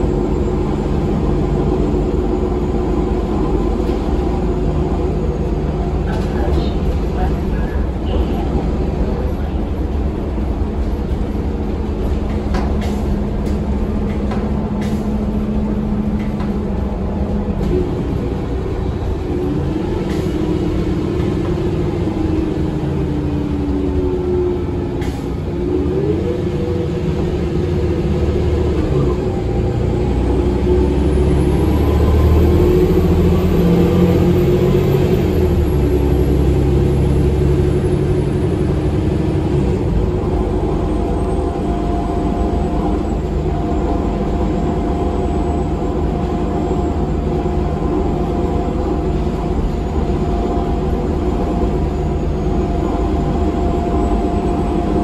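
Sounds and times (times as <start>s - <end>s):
bus cabin rumble: 0.0s - 55.0s
drivetrain whine: 0.0s - 55.0s.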